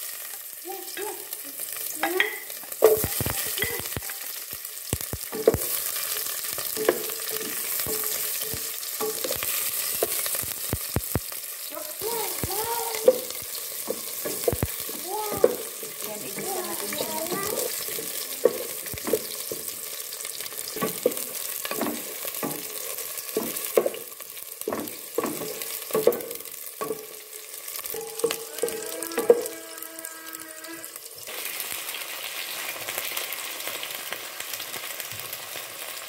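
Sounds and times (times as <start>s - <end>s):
shallots and ginger sizzling in oil: 0.0s - 36.0s.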